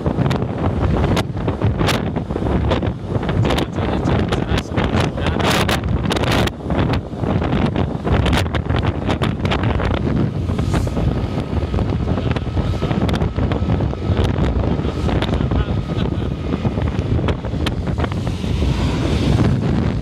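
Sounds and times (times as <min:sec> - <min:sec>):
passing road traffic rumble: 0:00.0 - 0:20.0
wind buffeting microphone: 0:00.0 - 0:20.0.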